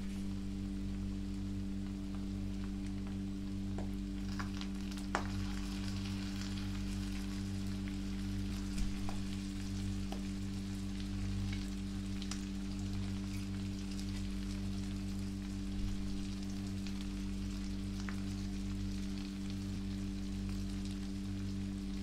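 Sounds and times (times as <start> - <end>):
steady low hum: 0.0 - 22.0
meat sizzling in a pan: 2.1 - 22.0.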